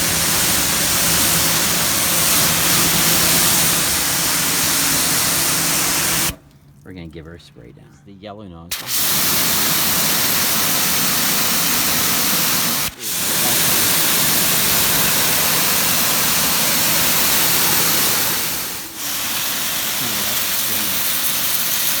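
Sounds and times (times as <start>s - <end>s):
pressure washer spray hiss: 0.0s - 6.4s, 8.7s - 22.0s.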